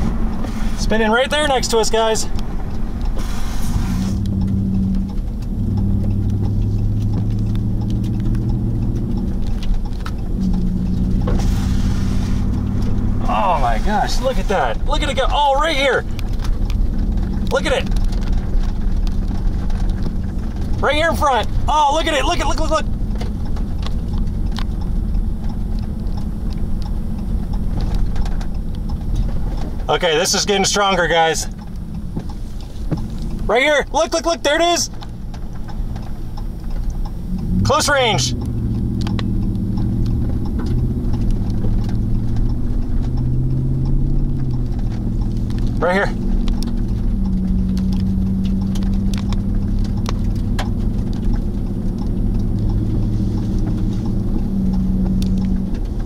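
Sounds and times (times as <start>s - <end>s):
sharp ticks and clicks: 0.0s - 11.5s, 12.2s - 56.0s
car engine running: 0.0s - 56.0s.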